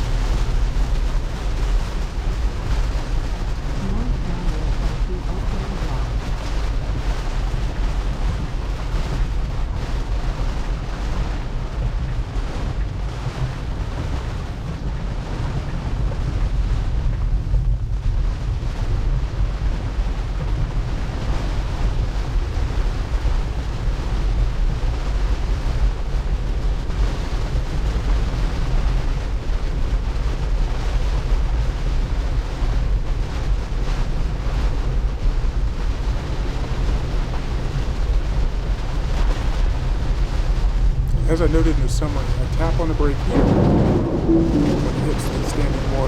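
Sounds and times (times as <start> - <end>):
tyres on flooded road: 0.0 - 18.6, 20.7 - 46.0
heavy rain on car: 0.0 - 46.0.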